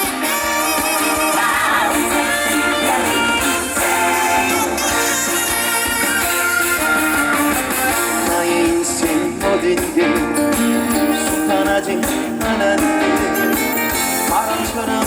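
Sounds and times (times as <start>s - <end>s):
electric guitar: 0.0s - 15.0s
live band playing: 0.0s - 15.0s.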